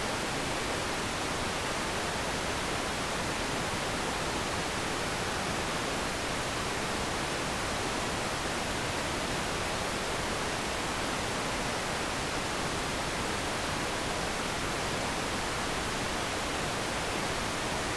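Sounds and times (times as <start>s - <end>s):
television static hiss: 0.0s - 17.9s.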